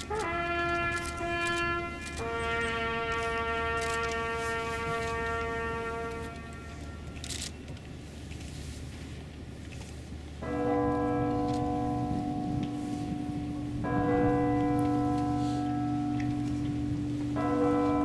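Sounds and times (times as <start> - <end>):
church bell tolling: 0.0 - 7.2, 10.4 - 18.0.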